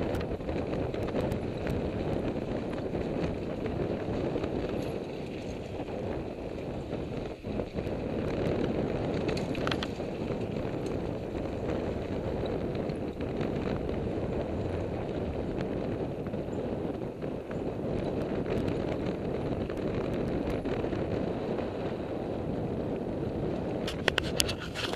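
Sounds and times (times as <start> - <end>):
bike rattling on dirt trail: 0.0 - 24.9
wind rushing over helmet camera: 0.0 - 24.9.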